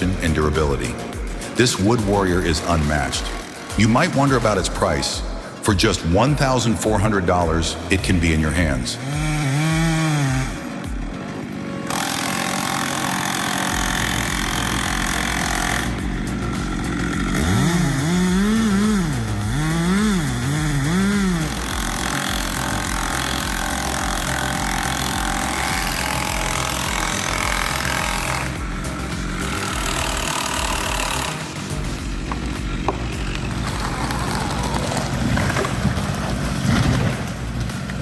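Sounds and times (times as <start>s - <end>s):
chainsaw running: 0.0s - 38.0s.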